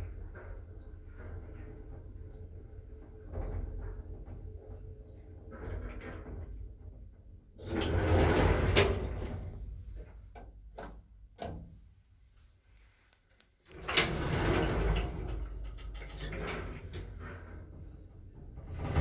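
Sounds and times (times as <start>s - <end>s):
lift doors sliding and rumbling: 0.0s - 11.9s, 13.7s - 19.0s.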